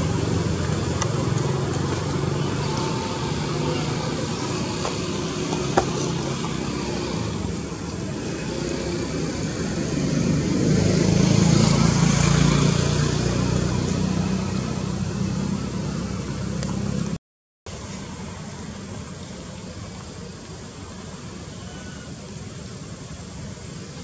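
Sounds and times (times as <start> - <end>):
motor vehicle traffic rumble: 0.0 - 24.0.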